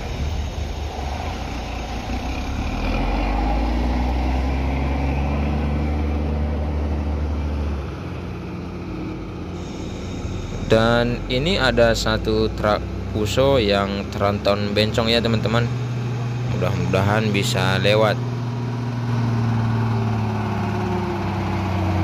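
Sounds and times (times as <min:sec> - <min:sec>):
diesel truck driving past: 0:00.0 - 0:22.0.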